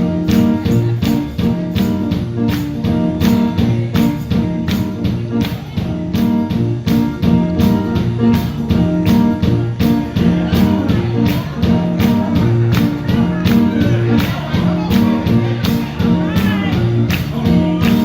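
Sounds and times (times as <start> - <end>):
steady drum beat: 0.0 - 18.0
sustained bass line: 0.0 - 18.0.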